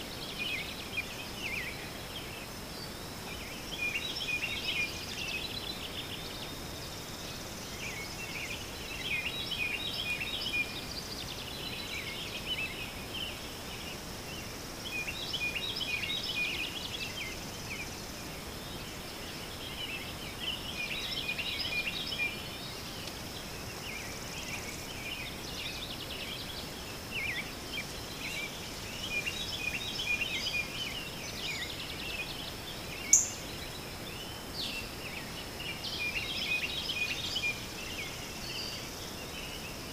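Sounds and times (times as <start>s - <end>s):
birds chirping: 0.0s - 39.9s
insect drone: 0.0s - 39.9s.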